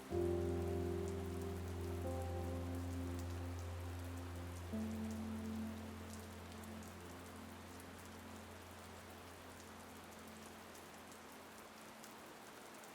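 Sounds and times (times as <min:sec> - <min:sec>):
rain hiss: 0:00.0 - 0:12.9
rain drop taps: 0:00.1 - 0:12.9.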